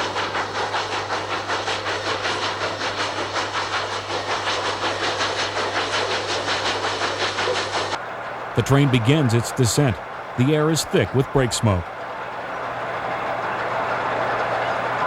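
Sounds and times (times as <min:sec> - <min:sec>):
steam hissing: 0:00.0 - 0:08.0, 0:08.6 - 0:13.1
steam locomotive exhaust chuffs: 0:00.0 - 0:15.0.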